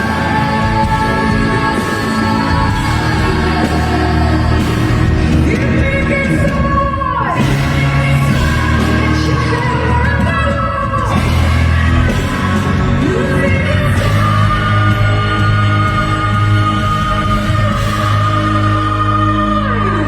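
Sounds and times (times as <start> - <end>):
band and orchestral backing: 0.0 - 20.0.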